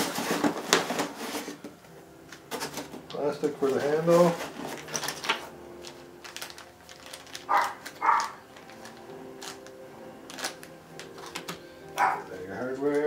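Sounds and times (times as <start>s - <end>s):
plastic packaging crinkles: 0.0s - 1.7s, 2.3s - 13.0s
plastic packaging rustling: 0.0s - 13.0s.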